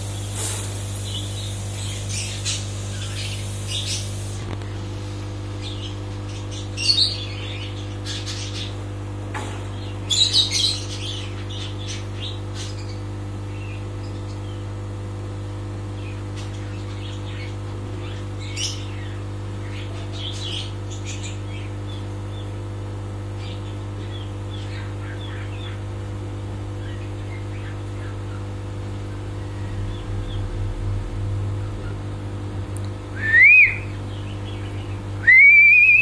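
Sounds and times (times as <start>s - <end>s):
birds chirping: 0.0s - 4.4s, 5.5s - 14.8s, 15.5s - 32.2s, 33.2s - 36.0s
steady low hum: 0.0s - 36.0s.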